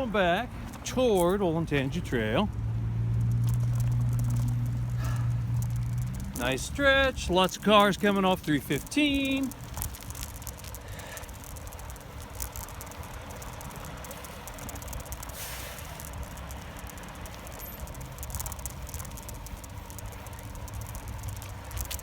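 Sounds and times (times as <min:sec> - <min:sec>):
light rattling clicks: 0:00.6 - 0:22.0.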